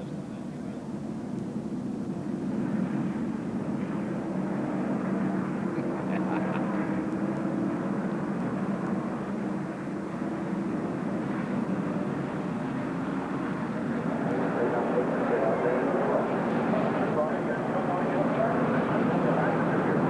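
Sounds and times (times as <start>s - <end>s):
race car engines droning: 3.2s - 20.0s.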